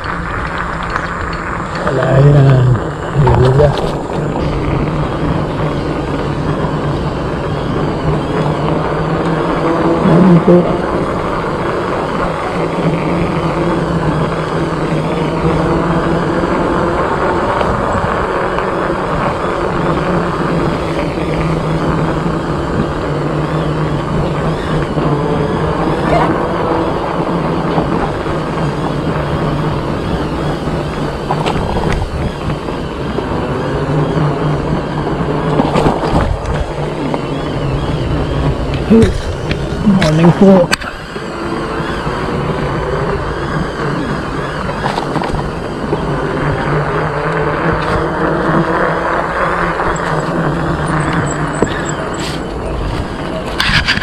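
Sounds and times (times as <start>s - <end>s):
low motor hum: 0.0s - 54.0s
wind and road noise: 0.0s - 54.0s.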